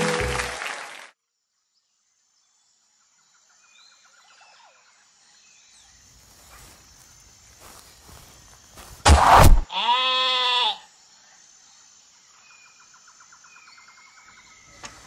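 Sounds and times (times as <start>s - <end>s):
outdoor background noise: 1.2s - 15.0s.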